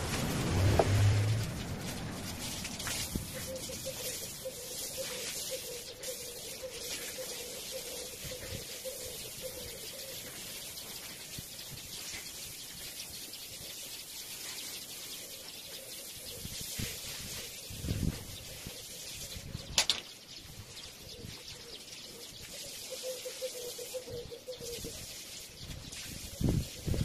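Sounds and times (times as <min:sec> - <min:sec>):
water hissing from garden hose: 0:00.0 - 0:20.3, 0:21.8 - 0:27.0
birds calling: 0:00.7 - 0:27.0.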